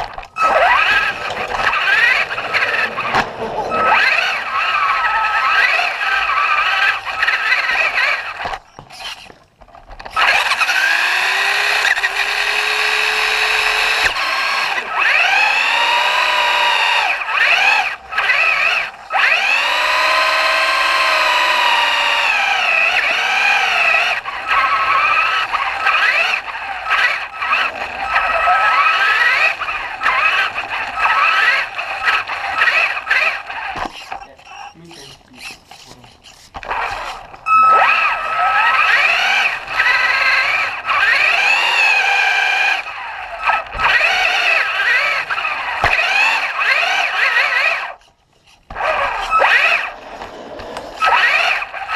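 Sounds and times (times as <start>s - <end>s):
toy truck motor whining: 0.0s - 51.9s.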